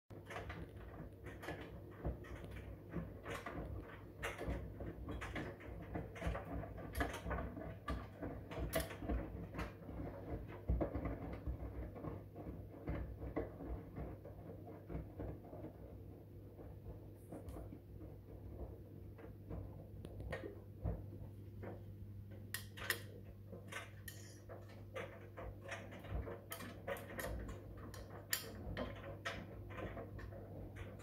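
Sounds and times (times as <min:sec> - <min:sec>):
laundry sloshing and thumping: 0:00.1 - 0:22.5, 0:23.1 - 0:31.0
washing machine drum turning: 0:00.1 - 0:31.0.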